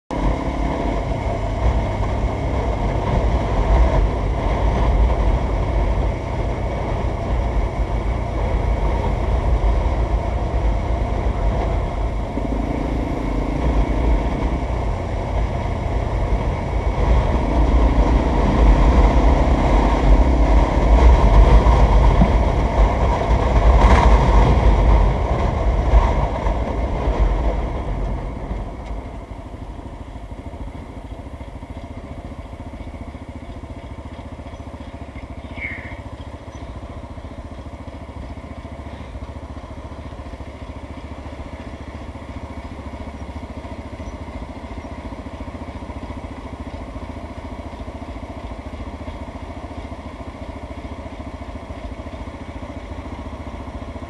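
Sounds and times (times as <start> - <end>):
motorcycle engine and tyres: 0.1 - 54.0.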